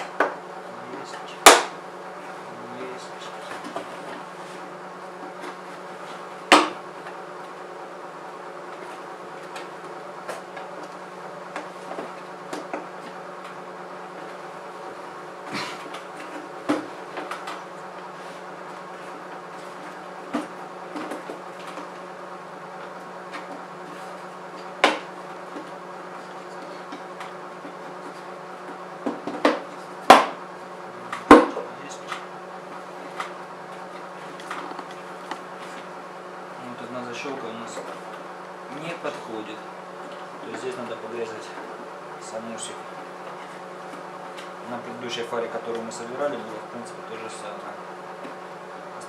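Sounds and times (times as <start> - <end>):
steady hum: 0.0 - 49.0.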